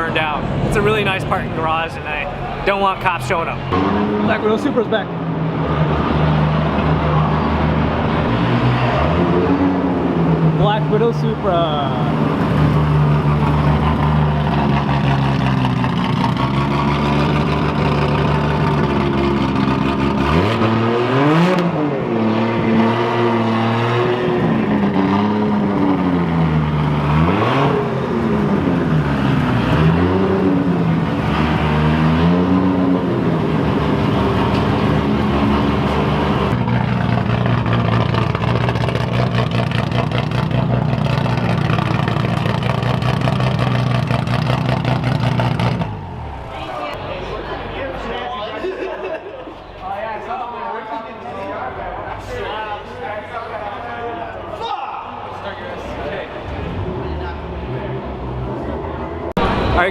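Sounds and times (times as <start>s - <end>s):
car engine idling and revving: 0.0s - 48.2s, 55.4s - 59.9s.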